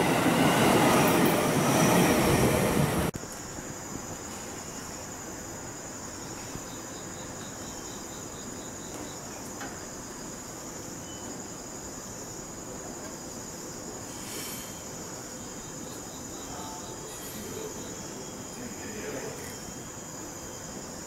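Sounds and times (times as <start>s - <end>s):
insects trilling: 0.0s - 21.0s
background hiss: 3.0s - 21.0s.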